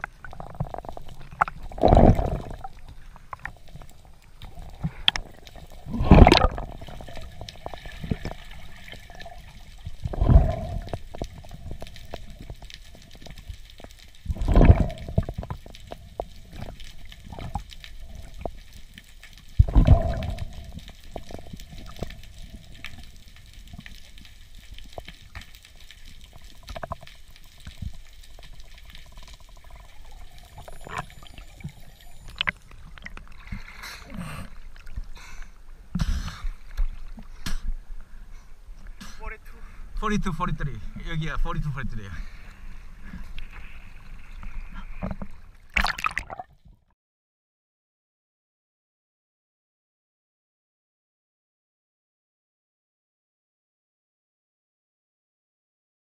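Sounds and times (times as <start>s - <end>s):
muffled underwater wash: 0.0s - 46.7s.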